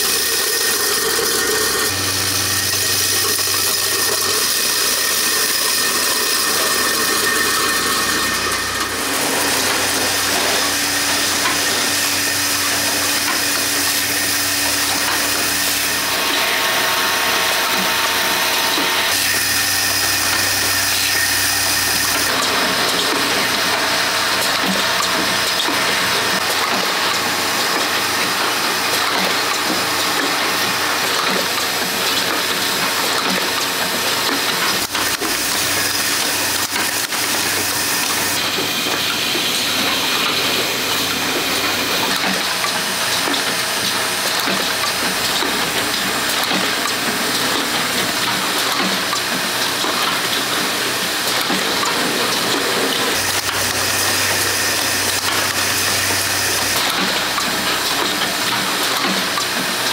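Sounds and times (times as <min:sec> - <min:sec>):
factory machinery hissing: 0:00.0 - 0:59.9.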